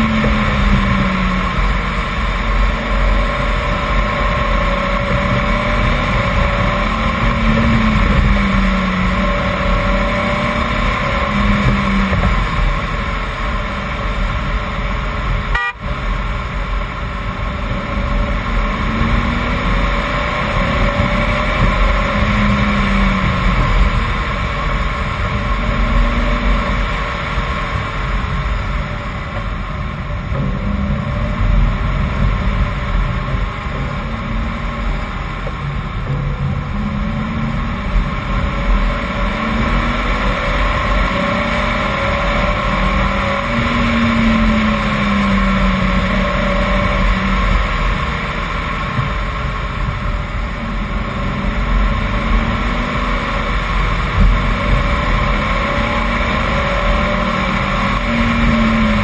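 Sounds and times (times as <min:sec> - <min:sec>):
car engine accelerating uphill: 0:00.0 - 0:59.0
tyre road noise: 0:00.0 - 0:59.0.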